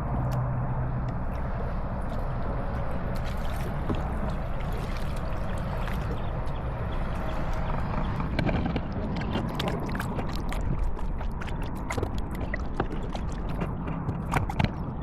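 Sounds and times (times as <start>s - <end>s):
low rumble: 0.0s - 15.0s
paddle splashing water: 2.1s - 15.0s.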